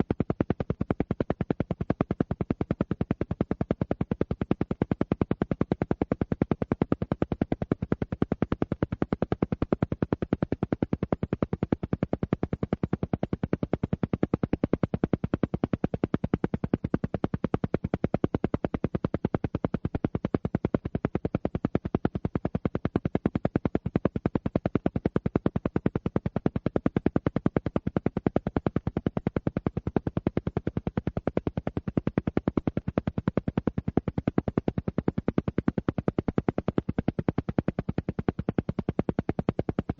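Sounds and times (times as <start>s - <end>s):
rapid evenly spaced pulses: 0.0s - 39.9s.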